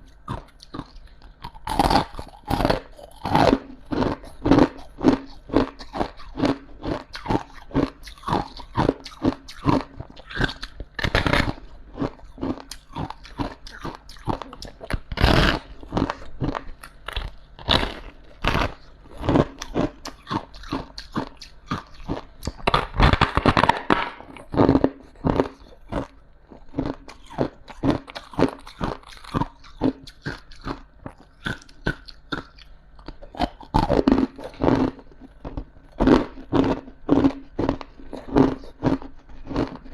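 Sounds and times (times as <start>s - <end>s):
frost crunching when chewed: 0.0s - 39.9s.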